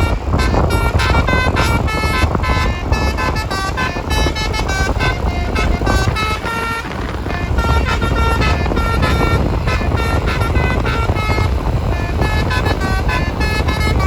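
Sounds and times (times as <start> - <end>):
bus horn playing a tune: 0.0 - 14.0
vehicle rumble: 0.0 - 14.0.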